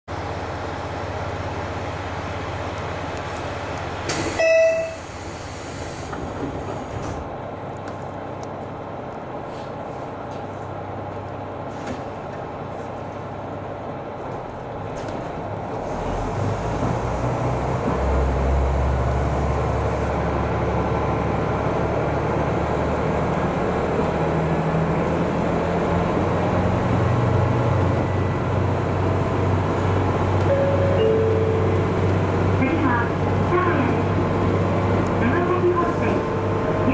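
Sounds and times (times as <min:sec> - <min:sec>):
diesel railcar engine: 0:00.1 - 0:36.9.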